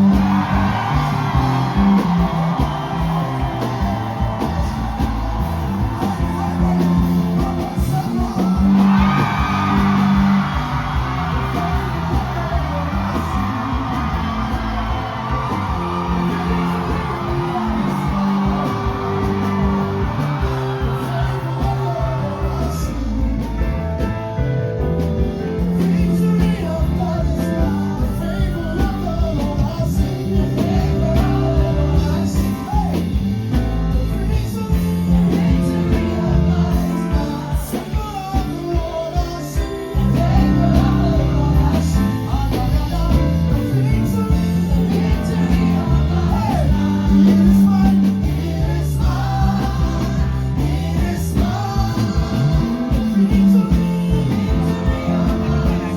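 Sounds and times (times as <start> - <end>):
person singing: 0.0 - 24.2, 25.4 - 55.9
band with drums and bass: 0.0 - 55.9.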